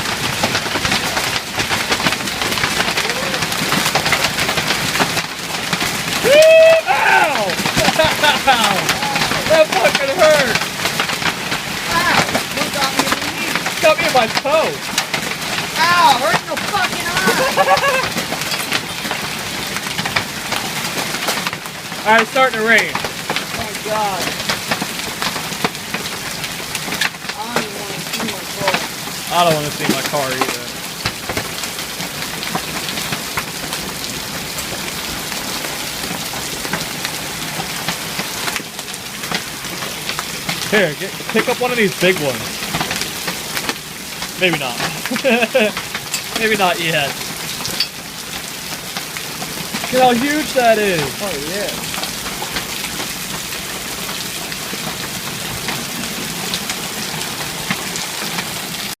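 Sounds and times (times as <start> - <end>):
hailstones clicking on hard surfaces: 0.0 - 59.0
heavy rain pouring: 0.0 - 59.0.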